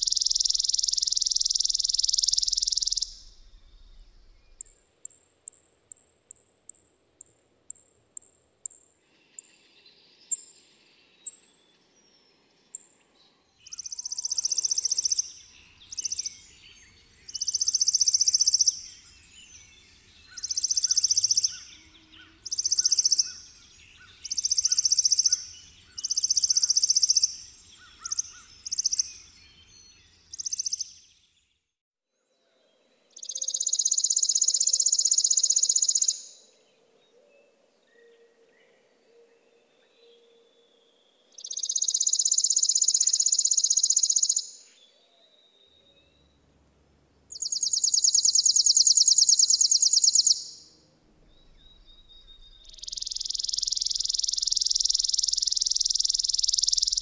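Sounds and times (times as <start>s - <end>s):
sparrow dry trills: 0.0s - 31.3s, 33.1s - 46.5s, 47.3s - 57.0s.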